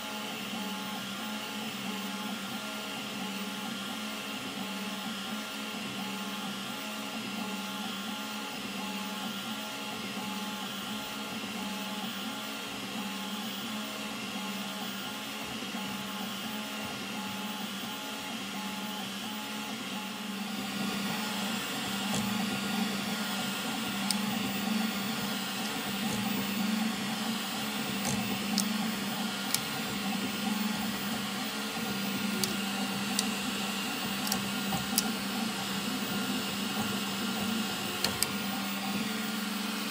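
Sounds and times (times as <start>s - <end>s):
printer motors and fans humming: 0.0s - 39.9s.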